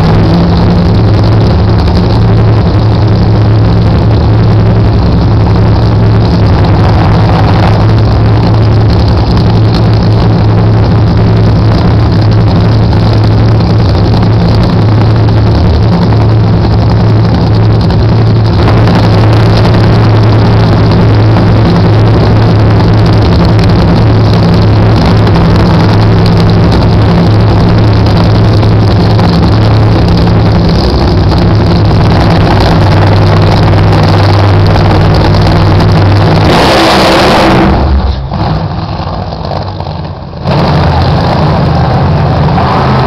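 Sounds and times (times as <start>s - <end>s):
race car engines roaring: 0.0s - 43.0s.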